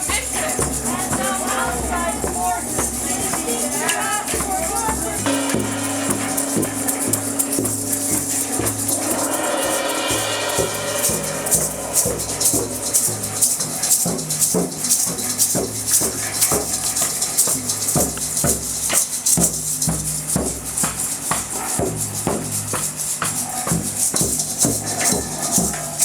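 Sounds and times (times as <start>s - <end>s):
rhythmic music with shaker beat: 0.0s - 26.0s.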